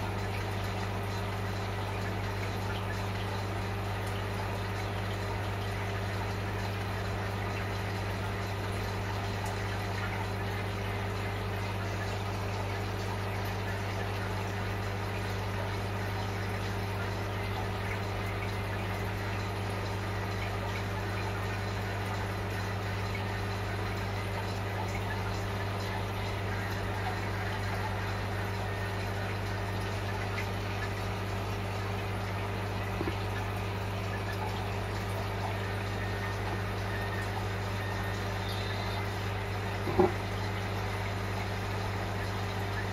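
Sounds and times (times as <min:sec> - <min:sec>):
aquarium pump humming: 0:00.0 - 0:42.9
water trickling and bubbling: 0:00.0 - 0:42.9.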